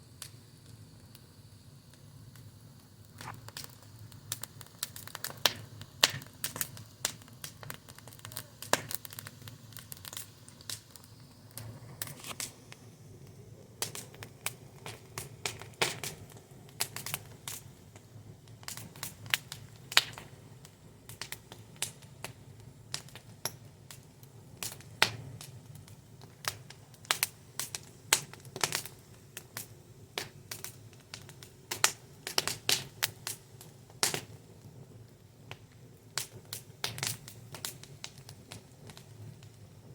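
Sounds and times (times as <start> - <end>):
wood fire crackling and popping: 0.0 - 1.3, 1.9 - 39.9
low rumble of burning: 0.0 - 39.9.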